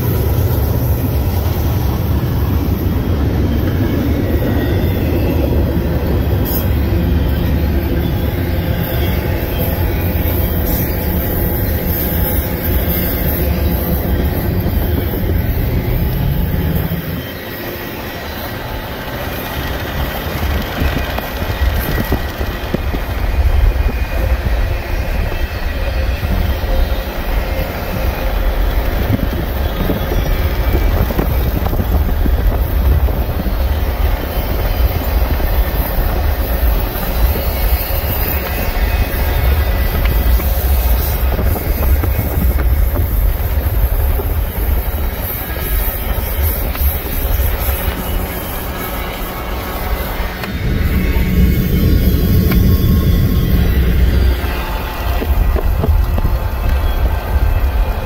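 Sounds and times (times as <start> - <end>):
freight train rumbling on rails: 0.0 - 58.0.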